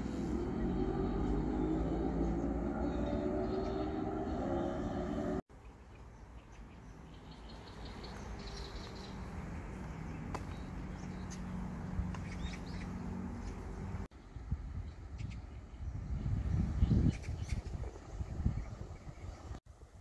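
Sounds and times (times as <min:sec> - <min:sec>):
small birds chirping: 0:00.5 - 0:19.6.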